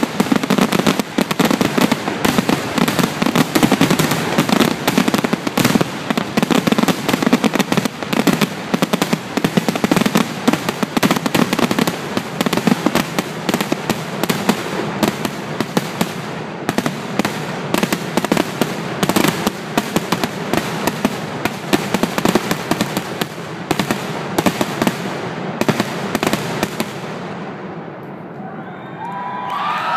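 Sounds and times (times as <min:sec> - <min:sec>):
fireworks bursts and crackle: 0:00.0 - 0:28.2.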